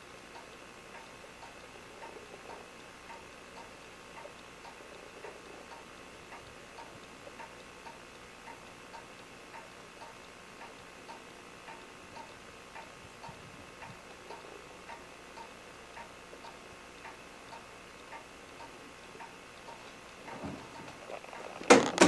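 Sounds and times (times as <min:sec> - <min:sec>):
clock ticking: 0:00.0 - 0:22.0.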